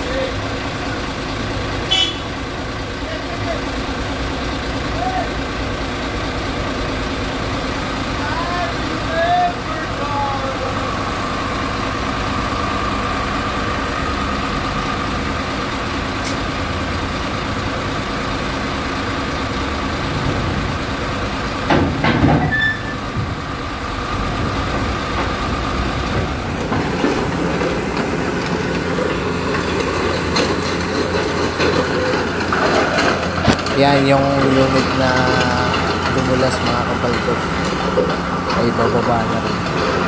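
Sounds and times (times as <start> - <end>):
excavator engine running under load: 0.0 - 40.0
steel tracks clanking: 0.0 - 40.0.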